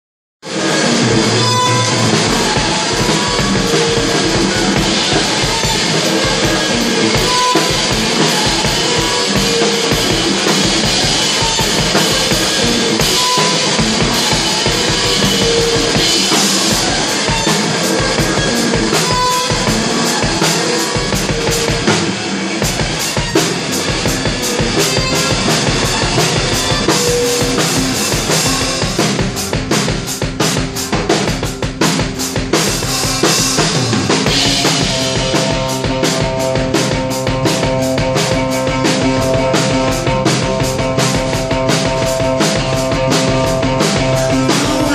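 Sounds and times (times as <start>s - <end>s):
drum kit beat: 0.4s - 44.9s
electric guitar: 0.4s - 44.9s.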